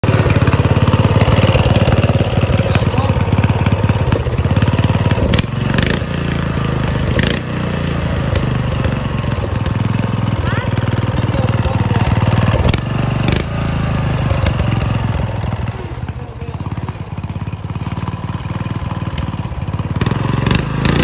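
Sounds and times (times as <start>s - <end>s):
riding lawn mower engine running: 0.0s - 21.0s.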